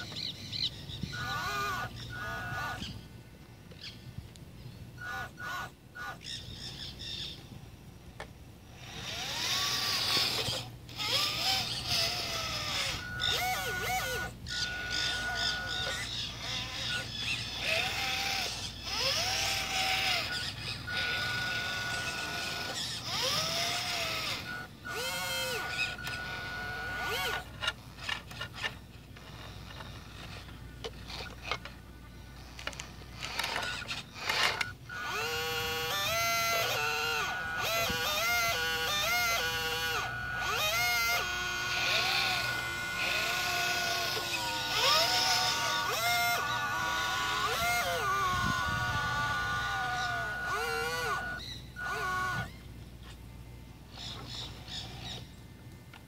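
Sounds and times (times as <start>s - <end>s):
electric motors whining: 0.0s - 56.0s
steady higher whine: 0.0s - 56.0s.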